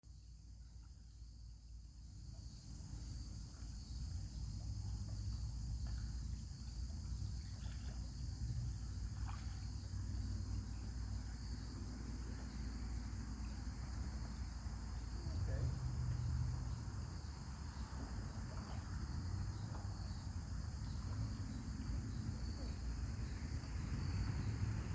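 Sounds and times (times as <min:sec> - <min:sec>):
insect chorus: 0:00.0 - 0:24.9.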